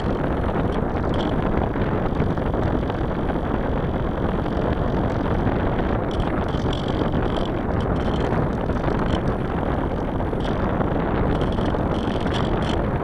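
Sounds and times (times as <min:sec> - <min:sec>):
aircraft engine: 0:00.0 - 0:13.0
wind on microphone: 0:00.0 - 0:13.0.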